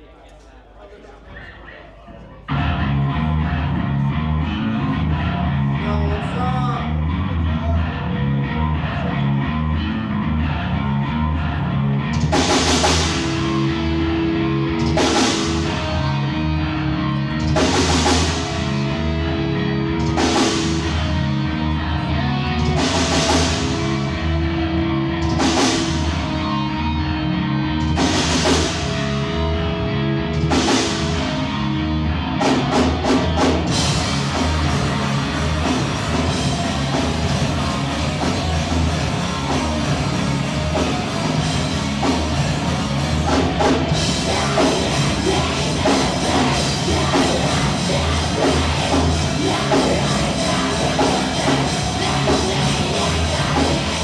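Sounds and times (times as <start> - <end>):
heavy rock band playing: 2.5 - 54.0.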